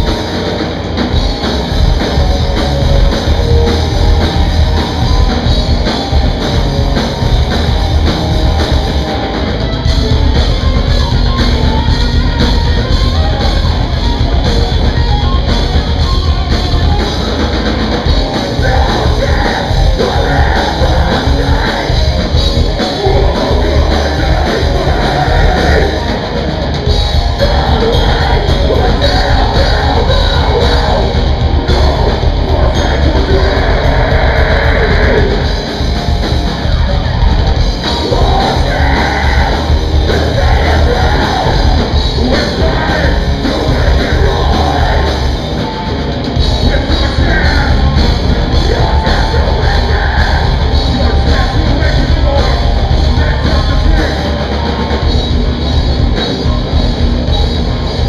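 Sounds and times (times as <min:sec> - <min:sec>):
heavy metal band playing: 0:00.0 - 0:58.0.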